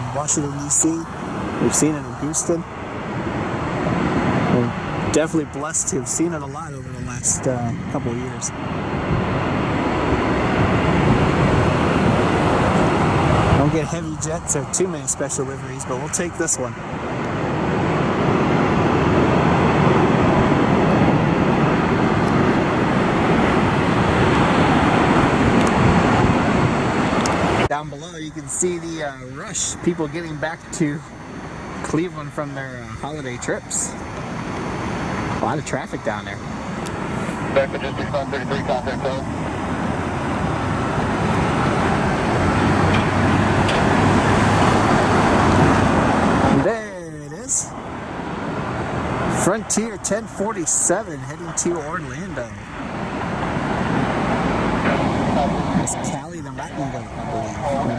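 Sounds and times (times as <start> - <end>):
jet airliner passing: 0.0 - 57.9
road traffic rumble: 0.0 - 57.9.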